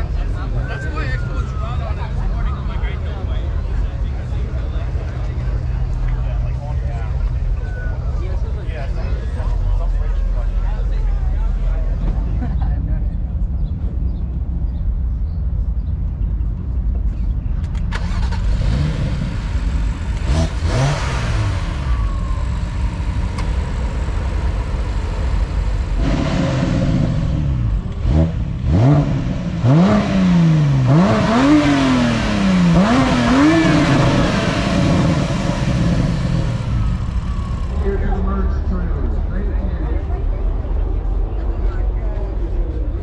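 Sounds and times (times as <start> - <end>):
car engine idling and revving: 0.0 - 43.0.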